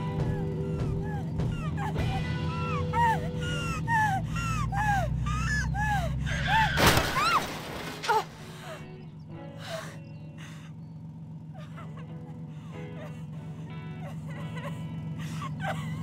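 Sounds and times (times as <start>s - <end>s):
car engine drone: 0.0s - 16.0s.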